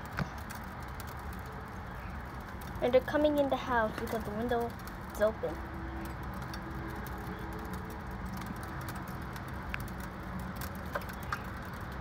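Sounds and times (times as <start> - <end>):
ice pellets ticking on ledge: 0.0 - 12.0
steady low rumble: 0.0 - 12.0.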